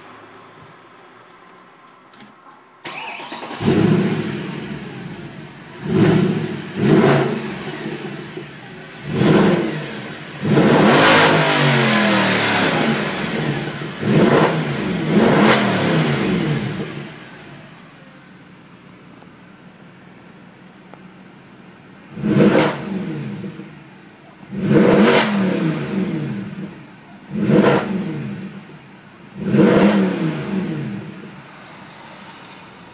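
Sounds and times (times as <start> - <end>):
car engine starting and revving: 2.8 - 19.0, 22.0 - 32.9.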